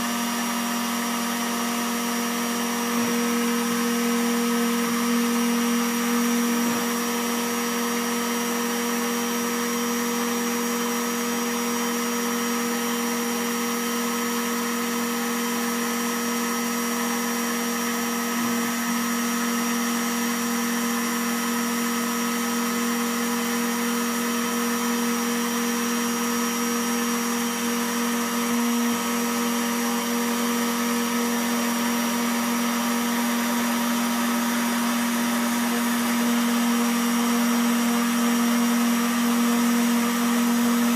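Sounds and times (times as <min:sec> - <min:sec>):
router spindle motor whining: 0:00.0 - 0:40.9.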